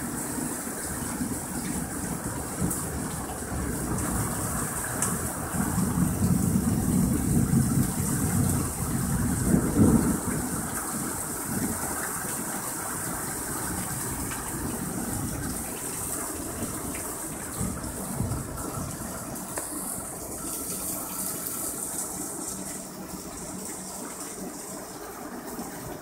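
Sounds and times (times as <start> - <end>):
torrential rain pouring: 0.0 - 26.0.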